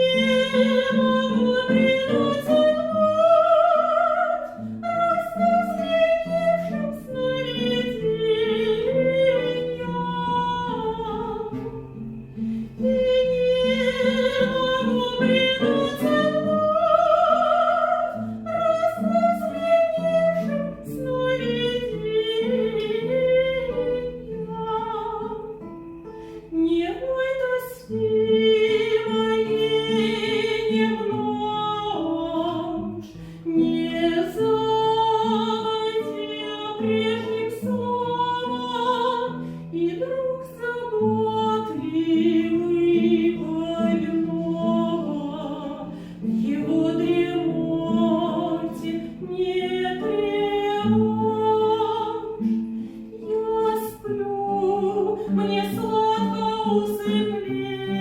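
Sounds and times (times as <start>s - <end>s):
classical singer with vibrato: 0.0s - 58.0s.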